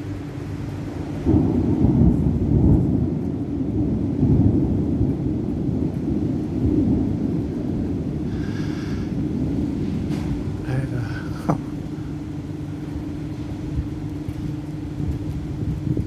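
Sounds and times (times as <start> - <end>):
thunder rumble: 0.0 - 16.0.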